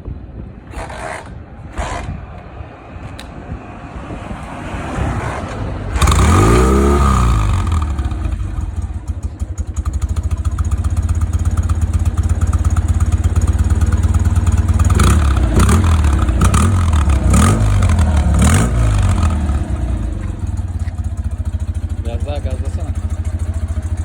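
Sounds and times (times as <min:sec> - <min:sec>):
motorcycle engine starting and revving: 0:00.6 - 0:03.4, 0:04.5 - 0:24.0.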